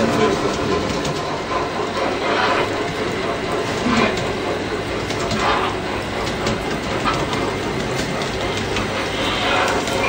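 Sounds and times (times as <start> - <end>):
model train whirring and rattling: 0.0 - 10.0.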